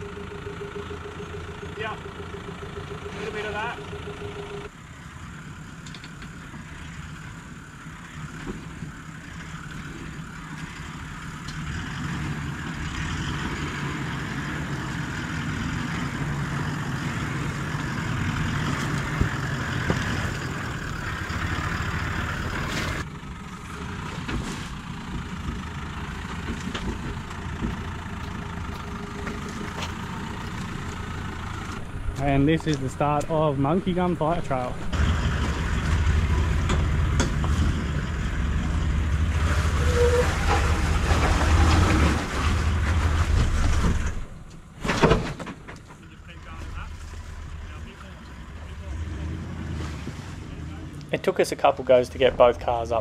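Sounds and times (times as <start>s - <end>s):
off-road vehicle engines at low revs: 0.0s - 53.0s.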